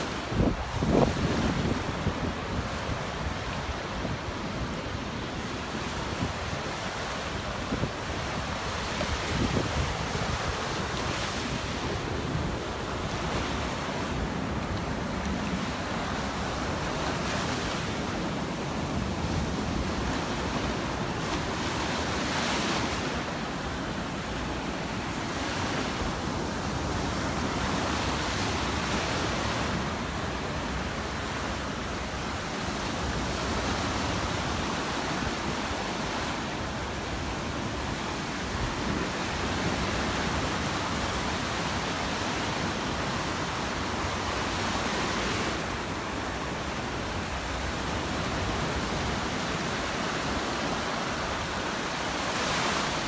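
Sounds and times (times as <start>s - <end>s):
surf washing up beach: 0.0s - 53.0s.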